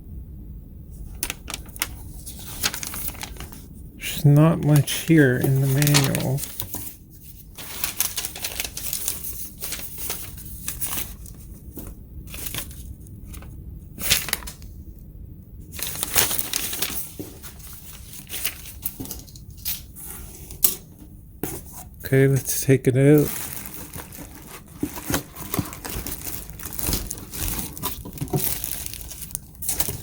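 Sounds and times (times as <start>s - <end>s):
paper and cardboard crinkling: 1.1s - 14.6s, 15.8s - 20.3s, 23.0s - 30.0s.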